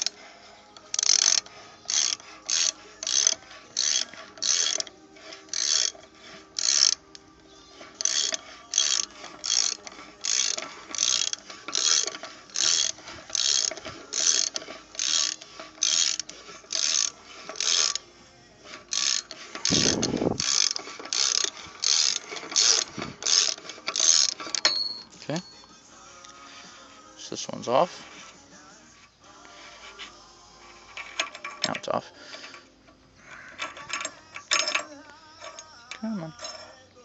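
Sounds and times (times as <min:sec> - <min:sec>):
ratchet wrench clicking: 0:00.0 - 0:00.2, 0:00.8 - 0:18.0, 0:18.6 - 0:25.1, 0:30.8 - 0:36.8.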